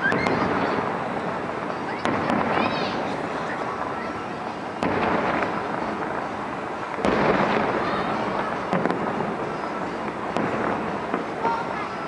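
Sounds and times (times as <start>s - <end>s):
firework boom echoing: 0.0s - 12.0s
lighter firework bangs: 0.0s - 12.0s.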